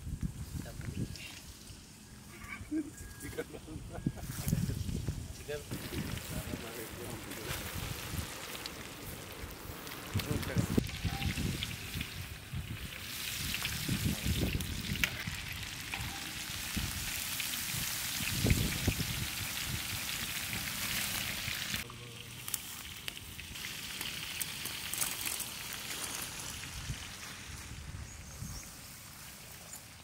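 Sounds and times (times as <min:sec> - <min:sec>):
chicken sizzling in hot oil: 0:04.1 - 0:30.0.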